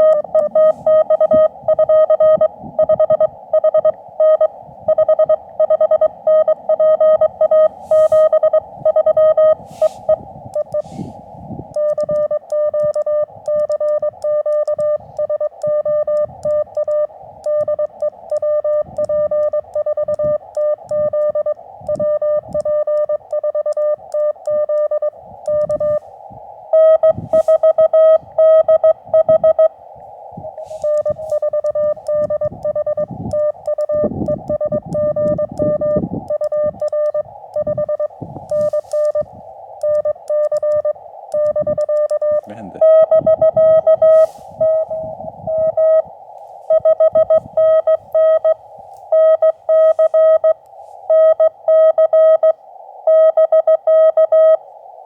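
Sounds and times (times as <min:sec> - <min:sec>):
morse code beeps: 0:00.0 - 0:26.0, 0:26.7 - 0:29.8, 0:30.5 - 0:46.1, 0:46.7 - 0:54.6
receiver hiss: 0:00.0 - 0:55.0.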